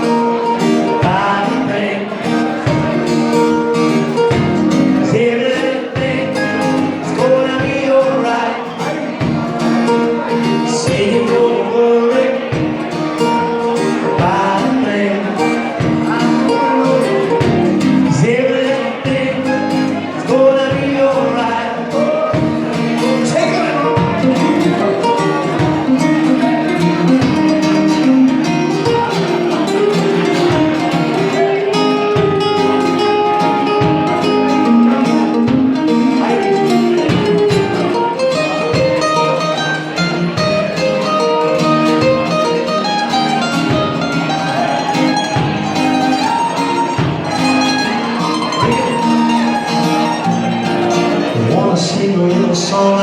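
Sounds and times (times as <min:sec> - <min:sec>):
guitar solo: 0:00.0 - 0:53.0
live band with steady beat: 0:00.0 - 0:53.0.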